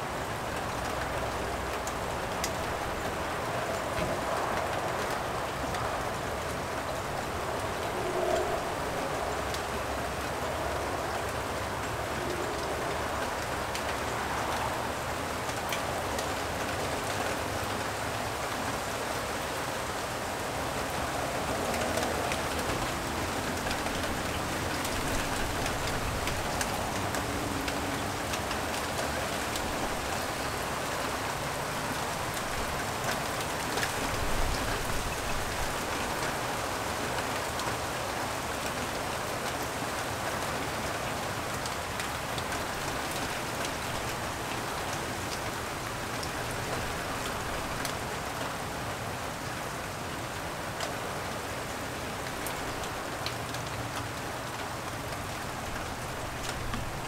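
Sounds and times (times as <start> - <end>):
light rain falling: 0.0 - 57.0
raindrops ticking: 0.2 - 18.8, 19.8 - 48.6, 50.3 - 57.0.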